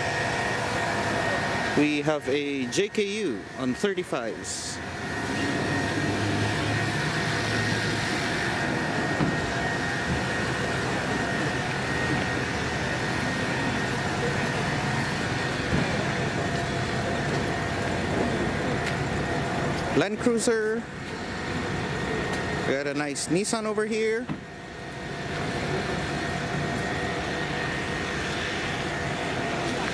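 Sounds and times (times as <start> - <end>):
high constant whine: 0.0 - 29.9
machine running: 0.0 - 29.9.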